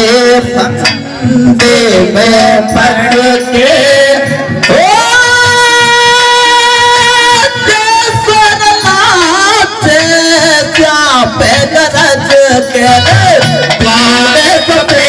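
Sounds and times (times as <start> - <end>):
man singing into a microphone: 0.0 - 15.0
music accompaniment: 0.0 - 15.0.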